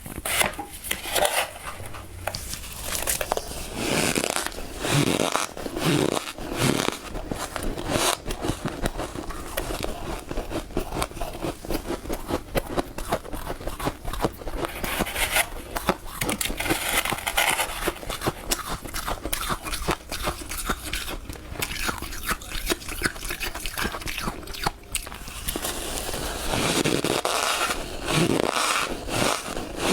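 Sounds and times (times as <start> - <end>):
freezer frost crunching: 0.0 - 29.9.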